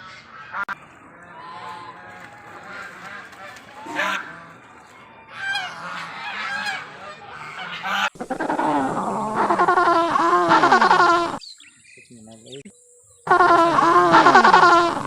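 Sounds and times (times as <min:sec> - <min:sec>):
geese honking: 0:00.0 - 0:12.4, 0:13.2 - 0:15.0.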